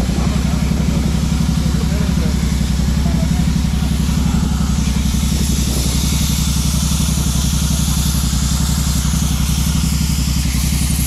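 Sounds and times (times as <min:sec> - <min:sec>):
machine pulsing drone: 0:00.0 - 0:11.0.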